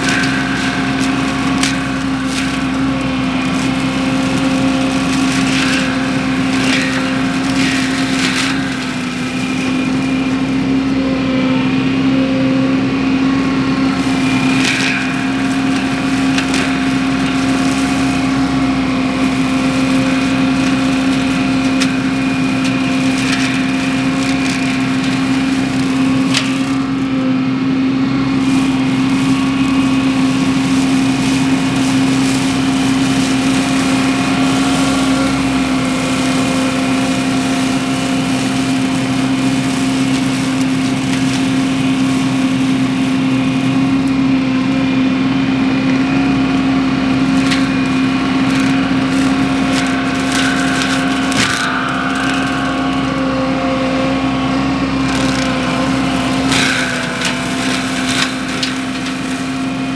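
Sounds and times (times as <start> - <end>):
skid steer mulcher droning: 0.0 - 59.9.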